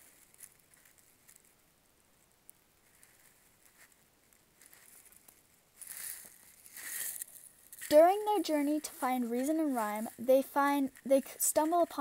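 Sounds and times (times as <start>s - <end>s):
small clicks and rustles: 0.0s - 12.0s.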